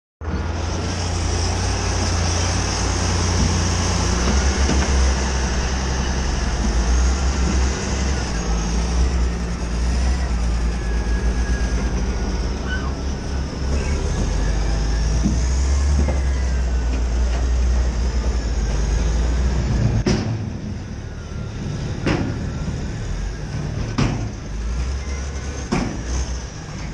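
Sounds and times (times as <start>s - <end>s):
diesel earthmoving equipment rumbling: 0.2s - 26.9s.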